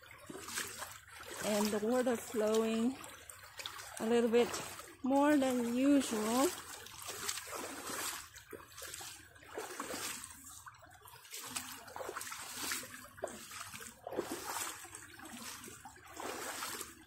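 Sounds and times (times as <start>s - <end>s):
creek water running over rocks: 0.0s - 17.0s
water splashes: 0.0s - 17.0s.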